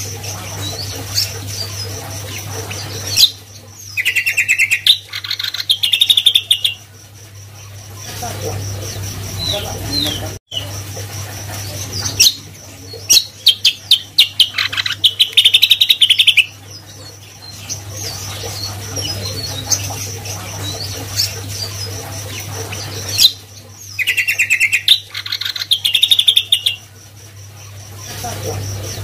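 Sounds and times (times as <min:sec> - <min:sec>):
bird chirps: 0:00.0 - 0:06.9, 0:11.6 - 0:29.0
bird singing rapid trills: 0:00.0 - 0:29.0
steady low hum: 0:00.0 - 0:29.0.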